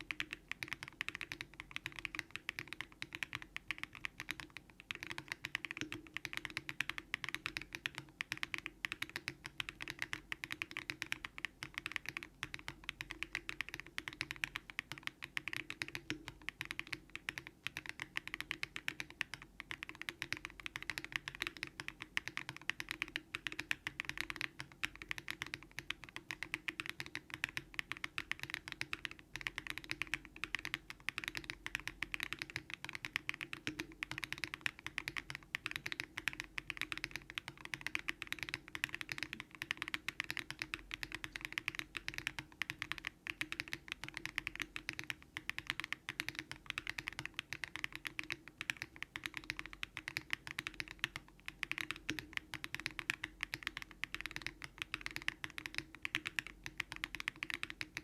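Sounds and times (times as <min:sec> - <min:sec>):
fast typing on mechanical keyboard: 0:00.0 - 0:58.0.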